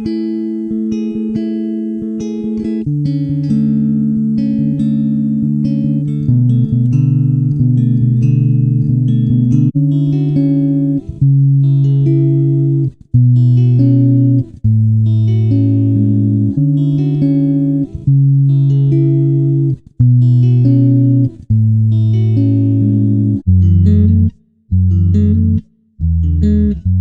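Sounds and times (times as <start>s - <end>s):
plucked guitar-like chords: 0.0s - 27.0s.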